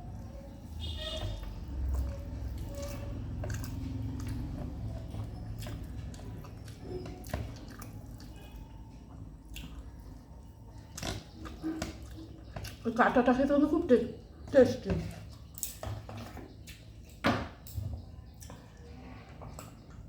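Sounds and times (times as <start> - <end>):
wet chewing: 0.0 - 17.2.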